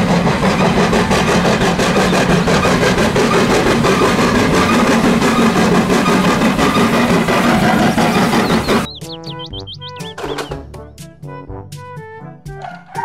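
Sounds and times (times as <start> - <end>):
steam locomotive chuffing: 0.0 - 10.5
train running noise: 0.0 - 10.7.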